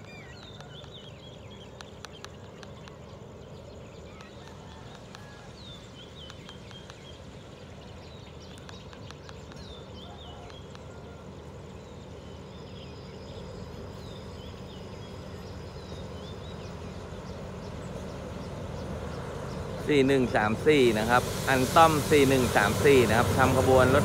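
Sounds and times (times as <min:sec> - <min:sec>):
bird chirping: 0:00.0 - 0:24.0
locomotive diesel engine rumble: 0:00.0 - 0:24.0.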